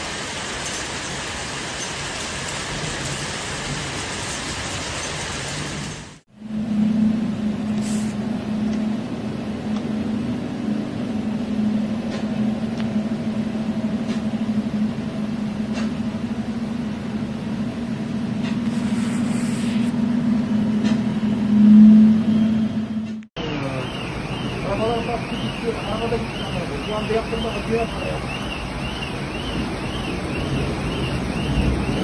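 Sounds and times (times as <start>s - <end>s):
vehicle engine humming: 6.1s - 32.0s.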